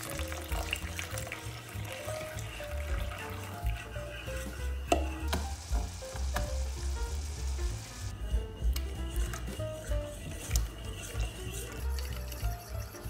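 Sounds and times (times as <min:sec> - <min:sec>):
milk pouring: 0:00.0 - 0:07.8, 0:08.7 - 0:13.0
soft background music: 0:00.0 - 0:13.0
syrup boiling in saucepan: 0:00.0 - 0:13.0
whisk stirring in steel bowl: 0:00.1 - 0:07.6, 0:08.2 - 0:13.0.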